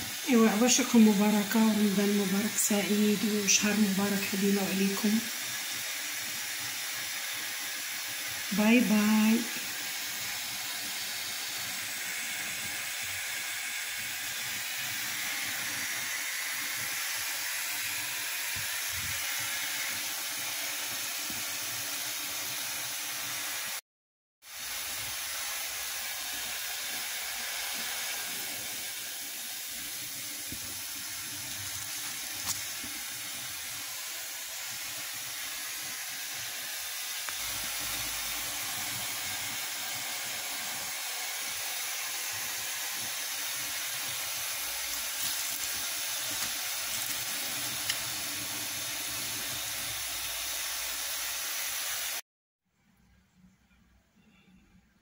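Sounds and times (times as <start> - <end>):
steady hiss: 0.0 - 23.8, 24.5 - 52.2.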